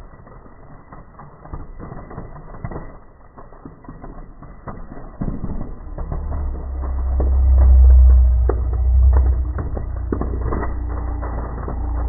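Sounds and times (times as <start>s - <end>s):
droplets spattering: 0.0s - 12.0s.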